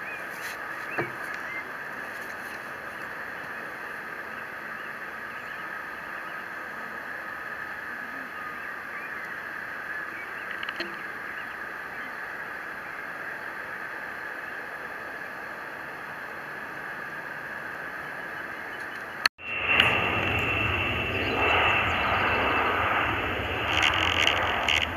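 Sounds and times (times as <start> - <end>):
distant jet engines whining: 0.0 - 24.9.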